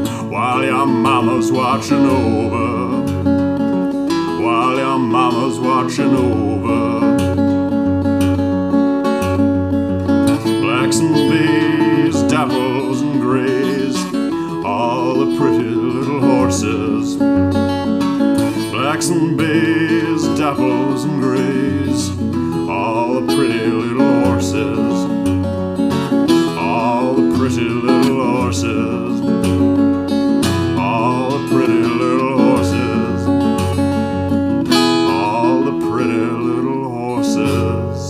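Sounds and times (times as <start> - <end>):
acoustic guitar playing slowly: 0.0 - 38.0.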